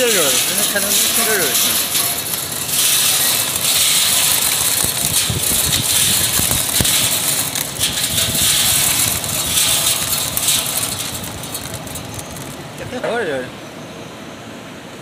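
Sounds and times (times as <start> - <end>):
seed shelling machine running: 0.0 - 13.5.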